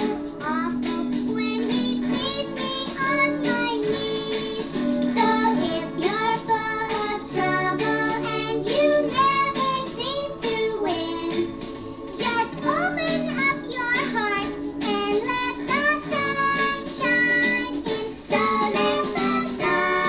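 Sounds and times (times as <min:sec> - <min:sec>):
pop song with vocals: 0:00.0 - 0:20.0.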